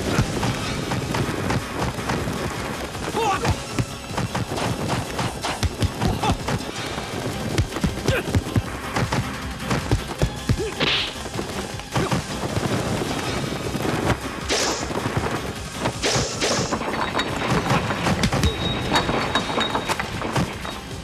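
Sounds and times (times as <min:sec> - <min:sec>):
thwacking and thudding blows: 0:00.0 - 0:16.9.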